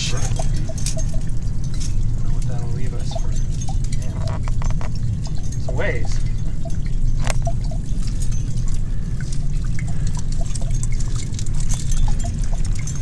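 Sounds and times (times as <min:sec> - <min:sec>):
drops plinking into metal bottle: 0:00.0 - 0:08.9, 0:09.8 - 0:13.0
meltwater trickling off rock: 0:00.0 - 0:13.0
steady low rumble: 0:00.0 - 0:13.0.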